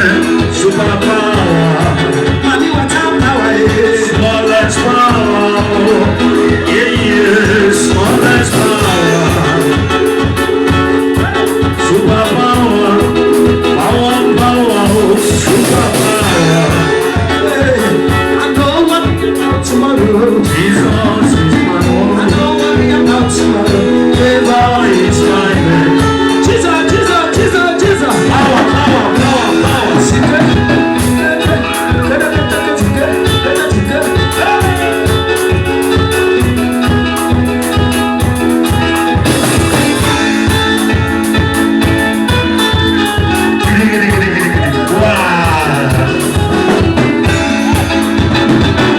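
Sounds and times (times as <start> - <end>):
gospel singing: 0.0 - 35.8, 43.6 - 48.9
guitar: 0.0 - 48.9
steady drum beat: 0.0 - 48.9.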